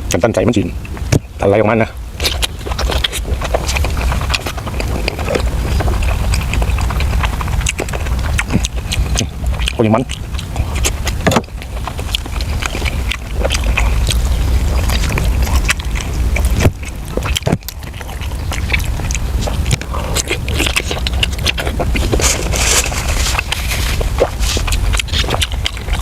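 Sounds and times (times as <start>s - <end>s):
chewing and biting: 0.0s - 26.0s
steady low rumble: 0.0s - 26.0s.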